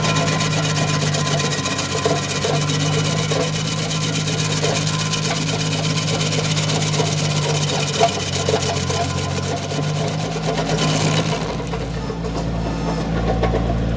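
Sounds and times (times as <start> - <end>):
stump grinder whirring: 0.0 - 13.9
tractor diesel engine running: 0.0 - 13.9.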